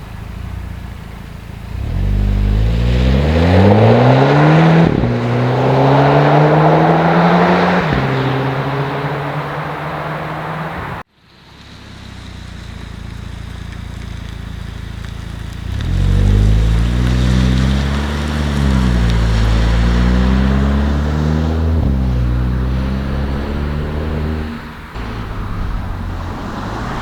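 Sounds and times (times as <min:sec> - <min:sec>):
car engine and exhaust: 0:00.0 - 0:27.0
road and wind noise: 0:00.0 - 0:27.0.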